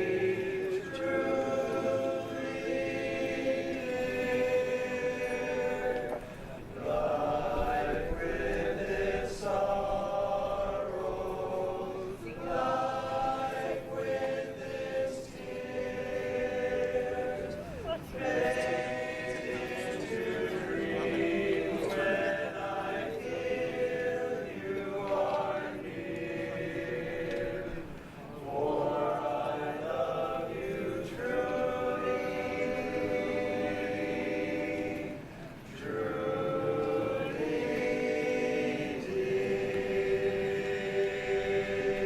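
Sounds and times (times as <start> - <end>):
a cappella close harmony singing: 0.0 - 42.0.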